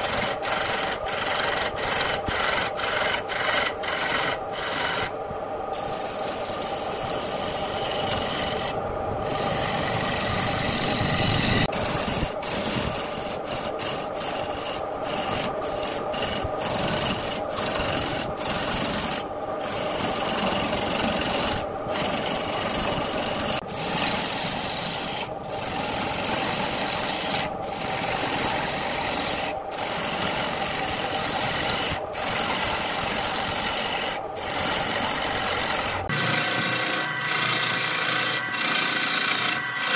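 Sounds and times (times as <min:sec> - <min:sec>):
lathe humming: 0:00.0 - 0:05.1, 0:05.7 - 0:39.9
gouge rasping on spinning wood: 0:00.0 - 0:39.9.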